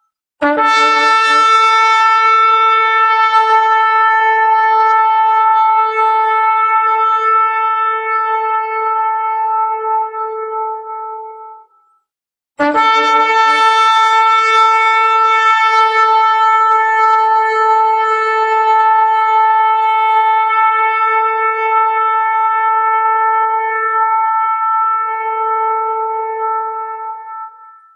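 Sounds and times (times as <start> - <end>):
shofar blast: 0.4 - 11.7, 12.6 - 27.9.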